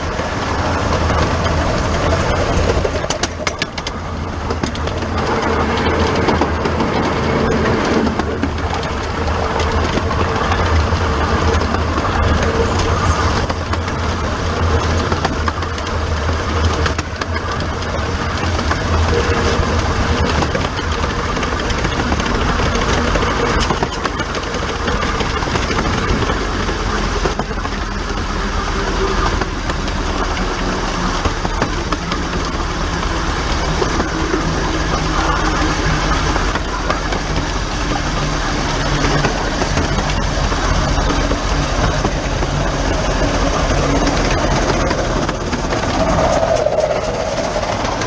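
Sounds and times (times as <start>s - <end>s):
deep rumble: 0.0s - 48.0s
steam locomotive mechanical rattle: 0.0s - 48.0s
wheel-on-rail noise: 0.0s - 48.0s.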